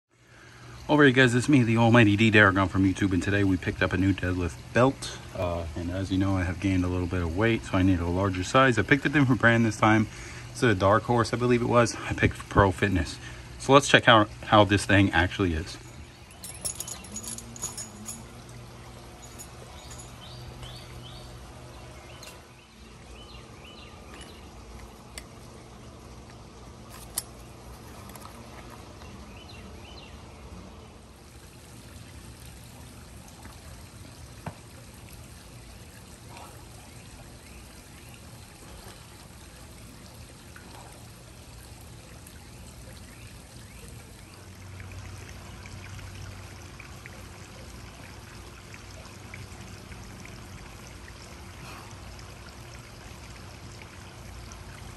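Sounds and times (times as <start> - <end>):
water trickling: 0.2 - 54.9.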